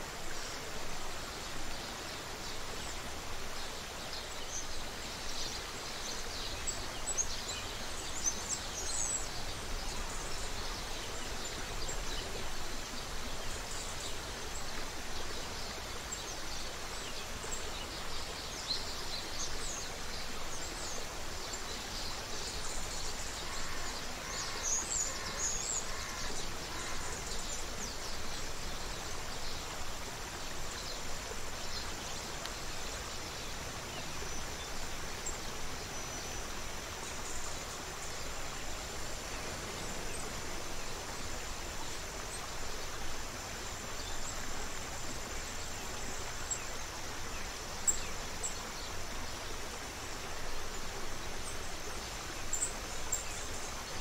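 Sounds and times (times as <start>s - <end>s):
creek water running: 0.0s - 54.0s.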